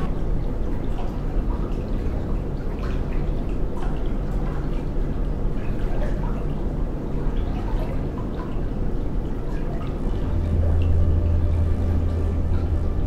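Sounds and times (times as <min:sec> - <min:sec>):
low rumbling drone: 0:00.0 - 0:13.0
water dripping: 0:00.0 - 0:13.0.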